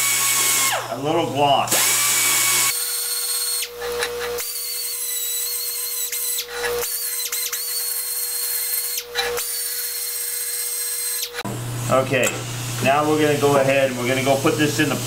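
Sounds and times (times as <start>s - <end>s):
die grinder whining: 0.0s - 15.0s.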